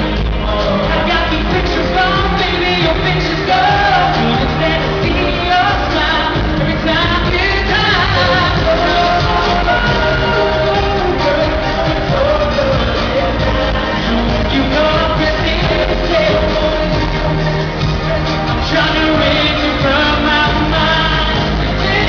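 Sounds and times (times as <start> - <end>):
live band playing pop: 0.0 - 22.0
man singing: 0.0 - 22.0.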